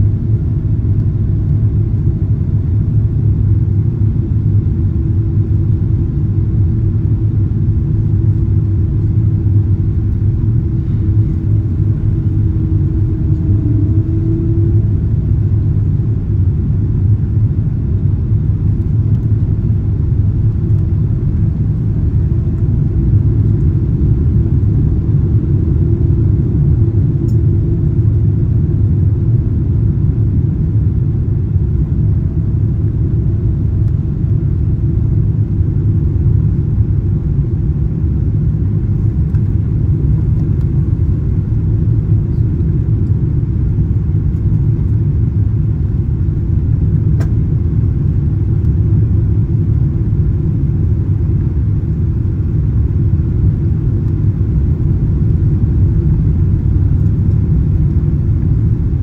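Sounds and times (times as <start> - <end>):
aircraft cabin engine rumble: 0.0 - 59.0
faint hum: 0.0 - 59.0.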